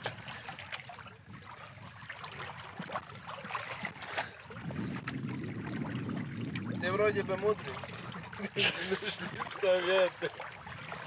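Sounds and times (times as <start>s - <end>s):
river water lapping and splashing: 0.0s - 11.0s.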